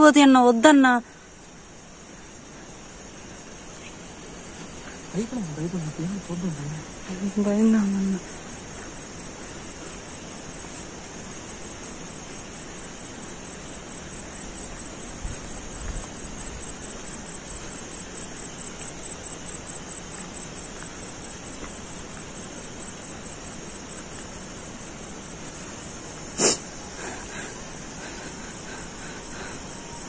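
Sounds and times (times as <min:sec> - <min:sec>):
outdoor night hiss: 0:00.0 - 0:30.0.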